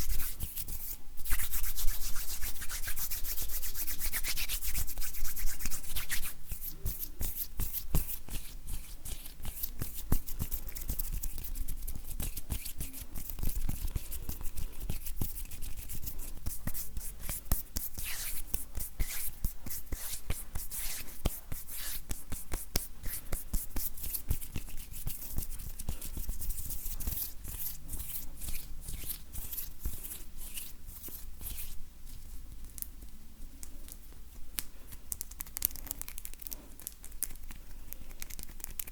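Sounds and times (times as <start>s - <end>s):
hands rubbing skin: 0.0s - 33.0s, 33.8s - 38.9s.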